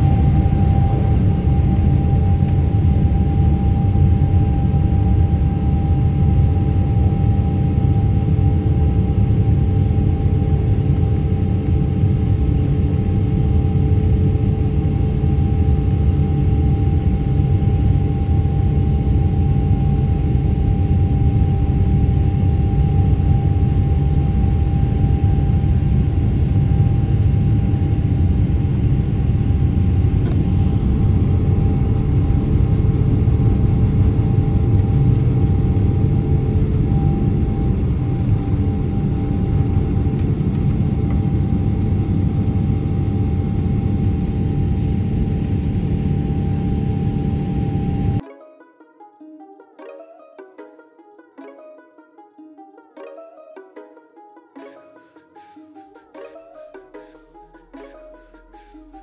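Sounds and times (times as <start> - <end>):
jet engines rumbling in cabin: 0.0 - 48.2.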